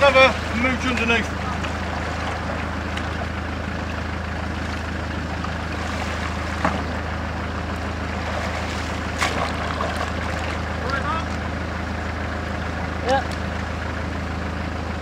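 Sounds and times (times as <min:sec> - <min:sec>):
river water flowing: 0:00.0 - 0:15.0
steady low hum: 0:00.0 - 0:15.0.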